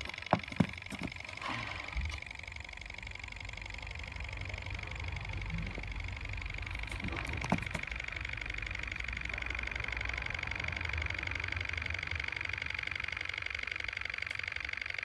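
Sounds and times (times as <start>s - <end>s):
model engine mechanical rattle: 0.0s - 15.0s.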